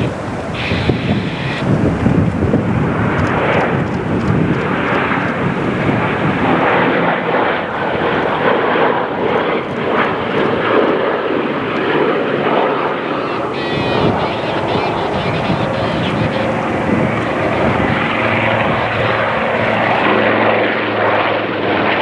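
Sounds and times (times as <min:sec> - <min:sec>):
piston aircraft engines flying past: 0:00.0 - 0:22.0.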